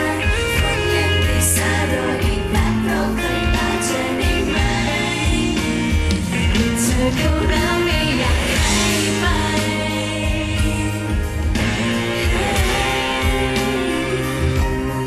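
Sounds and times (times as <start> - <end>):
woman singing: 0.0 - 11.3, 11.9 - 15.0
pop backing music over speakers: 0.0 - 15.0.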